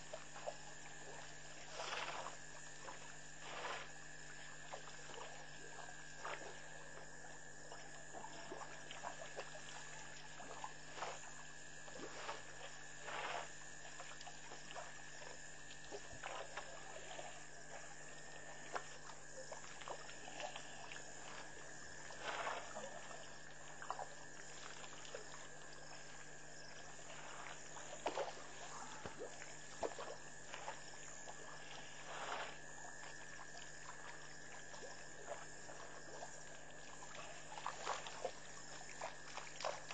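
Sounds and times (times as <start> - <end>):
high-pitched background hum: 0.0 - 39.9
water splashing and gurgling: 0.0 - 39.9.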